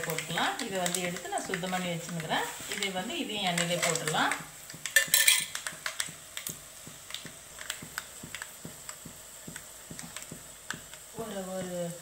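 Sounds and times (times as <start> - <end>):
faint sizzle: 0.0 - 12.0
oil crackling and popping: 0.0 - 12.0.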